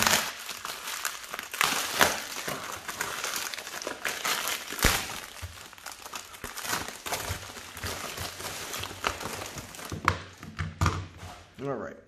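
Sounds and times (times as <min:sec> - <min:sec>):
plastic bubble mailer crinkling: 0:00.0 - 0:11.6.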